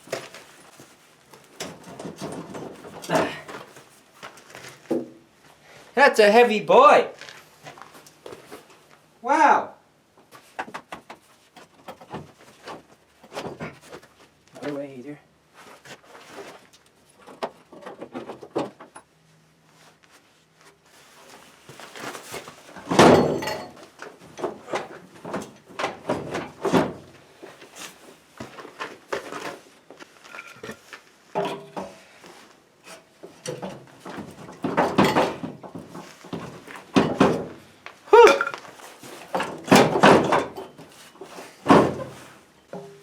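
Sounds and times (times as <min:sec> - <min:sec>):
parts clunking and scraping: 0:00.0 - 0:05.6, 0:10.2 - 0:14.8, 0:15.6 - 0:19.2, 0:19.8 - 0:43.0.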